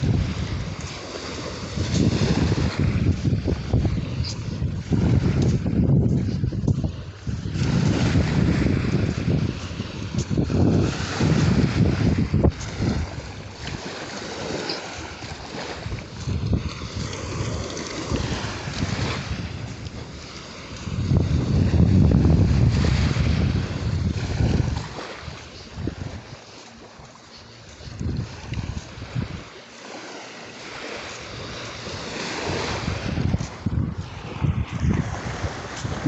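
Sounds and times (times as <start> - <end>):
waves washing on shore: 0.0 - 36.0
wind buffeting microphone: 0.0 - 36.0.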